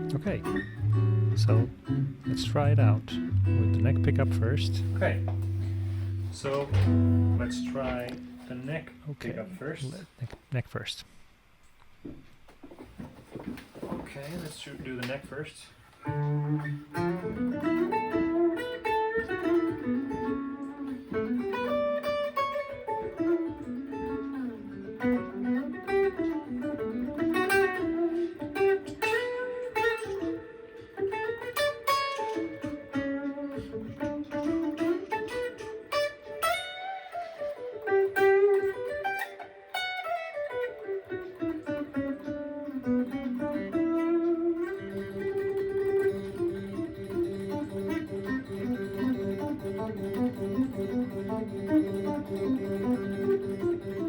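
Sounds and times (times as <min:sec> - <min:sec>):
electric guitar melodic runs: 0:00.0 - 0:09.0, 0:16.0 - 0:54.0.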